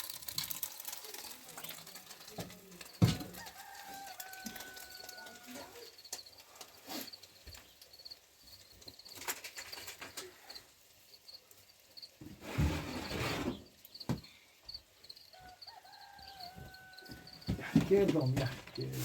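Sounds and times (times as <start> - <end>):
small birds chirping: 1.0 - 12.3, 13.4 - 18.4.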